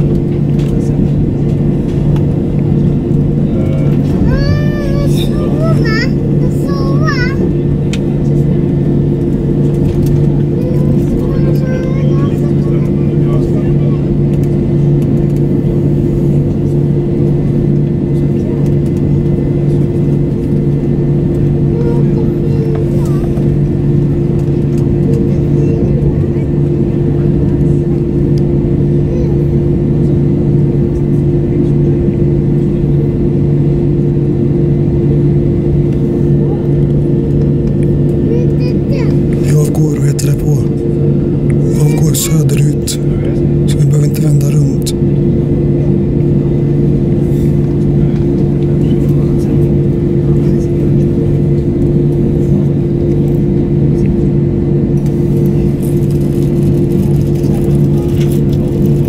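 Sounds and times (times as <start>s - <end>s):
held hum tones: 0.0s - 59.0s
jet engine drone in cabin: 0.0s - 59.0s.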